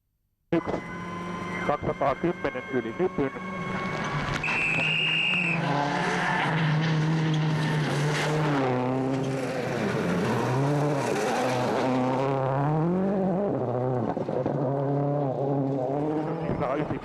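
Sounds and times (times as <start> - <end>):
road and tyre noise: 0.5 - 17.0
rally car engine revving: 0.6 - 17.0.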